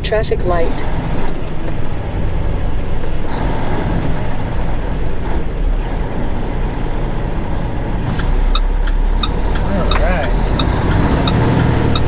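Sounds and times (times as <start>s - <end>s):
road noise: 0.0s - 12.0s
truck diesel engine running: 0.0s - 12.0s.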